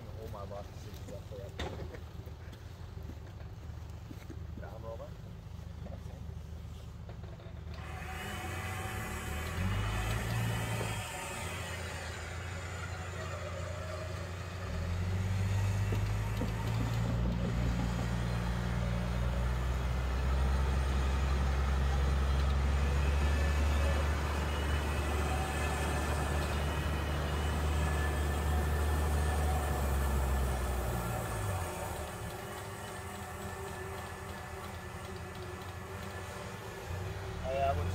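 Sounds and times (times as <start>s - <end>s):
vehicle engine droning: 0.0s - 37.9s.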